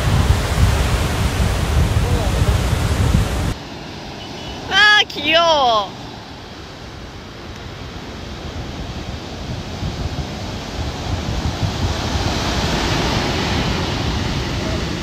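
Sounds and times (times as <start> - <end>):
wind buffeting microphone: 0.0 - 3.6, 6.2 - 15.0
sea surf washing in: 0.0 - 15.0.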